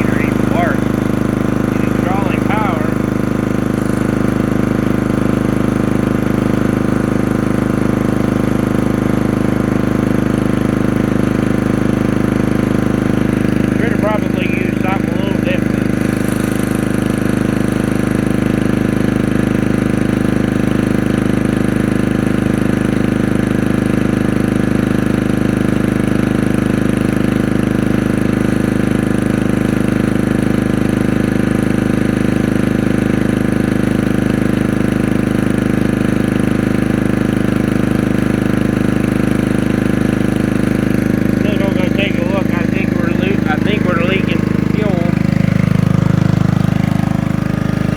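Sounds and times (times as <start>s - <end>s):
portable generator engine running: 0.0s - 47.9s.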